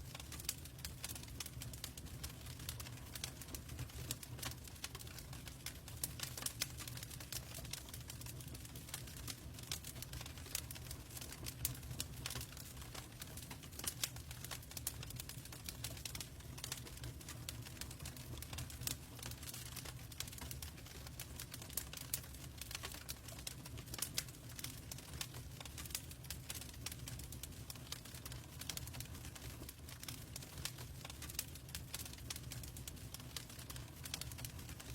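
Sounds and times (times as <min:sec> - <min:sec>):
logs crackling in fireplace: 0:00.0 - 0:34.9.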